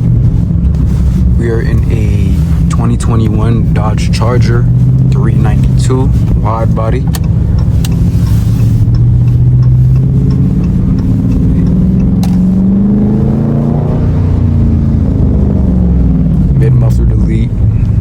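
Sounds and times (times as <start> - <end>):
car engine revving while driving: 0.0 - 18.0.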